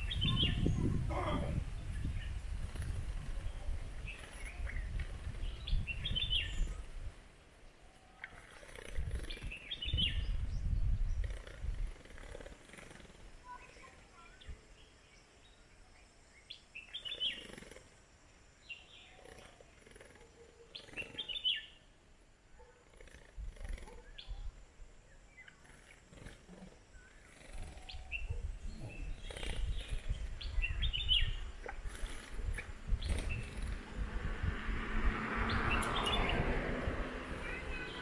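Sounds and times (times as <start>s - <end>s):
bulbuls chirping: 0.0s - 6.9s, 8.1s - 21.9s, 22.5s - 34.0s, 35.3s - 38.0s.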